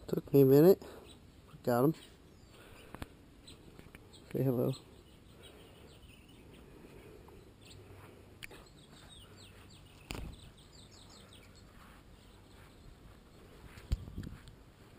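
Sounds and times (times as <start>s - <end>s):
small bird chirping: 0.5s - 14.5s.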